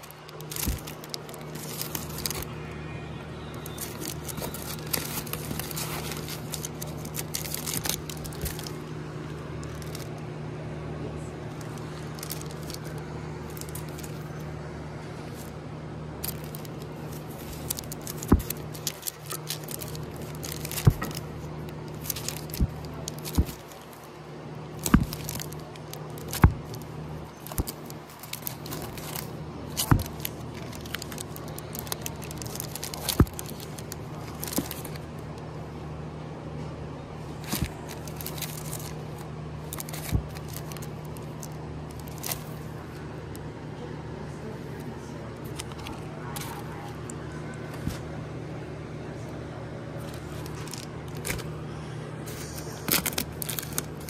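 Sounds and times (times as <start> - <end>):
plastic sleeves rustling: 0.0 - 2.6, 3.5 - 10.3, 11.2 - 15.6, 16.2 - 35.5, 37.3 - 43.4, 45.4 - 48.1, 49.9 - 54.0
record jackets clacking: 0.0 - 2.6, 3.5 - 10.3, 11.3 - 14.6, 16.2 - 35.5, 37.4 - 43.4, 45.4 - 48.1, 50.0 - 51.6, 52.3 - 54.0.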